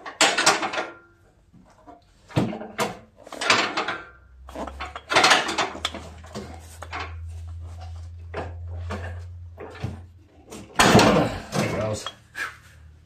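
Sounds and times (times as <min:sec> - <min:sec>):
metal clanking and scraping: 0:00.0 - 0:12.5
low steady hum: 0:00.3 - 0:13.0.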